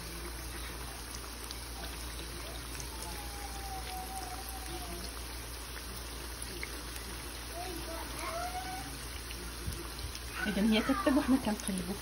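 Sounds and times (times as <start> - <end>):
oil sizzling and bubbling: 0.0 - 12.0.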